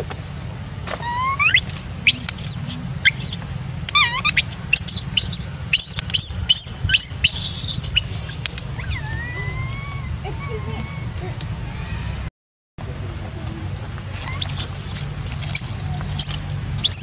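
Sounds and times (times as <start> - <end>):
infant monkey screaming: 0.9 - 12.2, 14.2 - 17.0
long low monkey cry: 1.0 - 12.2, 14.2 - 17.0.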